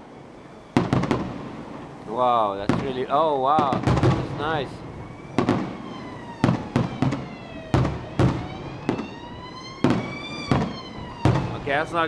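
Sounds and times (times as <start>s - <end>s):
fireworks bangs: 0.0s - 12.0s
police siren wailing: 0.0s - 12.0s.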